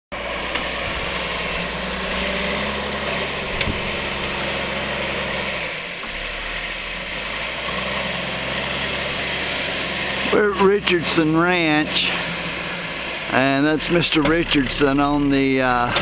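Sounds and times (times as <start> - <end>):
backhoe engine running: 0.1 - 16.0.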